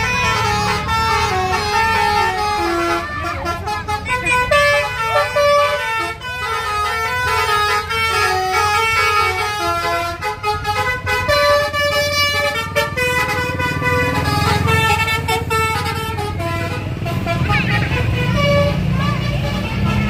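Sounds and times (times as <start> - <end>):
bus engine rumble: 0.0 - 20.0
multi-tone air horn melody: 0.0 - 20.0.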